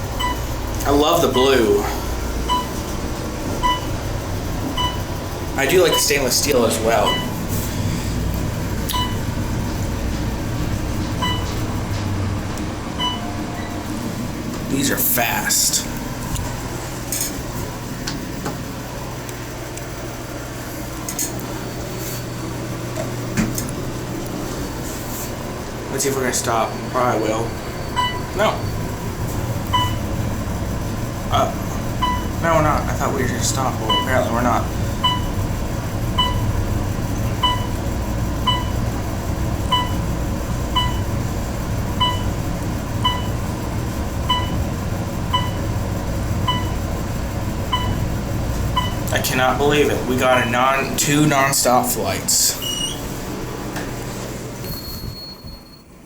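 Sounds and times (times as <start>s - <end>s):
elevator low hum: 0.0s - 56.0s.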